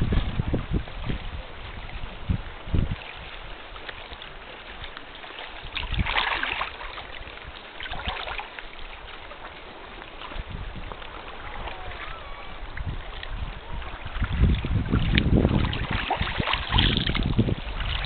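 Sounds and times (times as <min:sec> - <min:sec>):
water lapping around canoe: 0:00.0 - 0:18.0
water splashes: 0:00.0 - 0:18.0.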